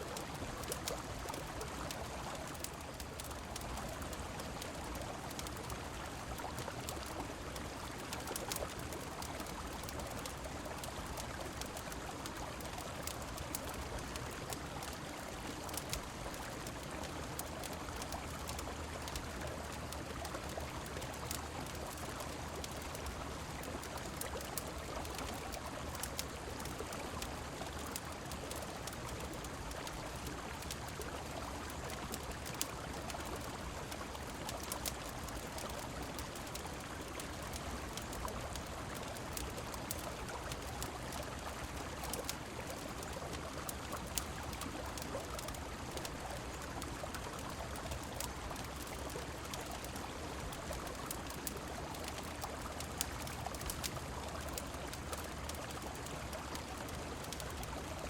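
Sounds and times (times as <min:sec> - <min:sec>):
river water flowing: 0:00.0 - 0:58.0
wood fire crackling: 0:00.1 - 0:57.9
rain falling: 0:00.1 - 0:58.0.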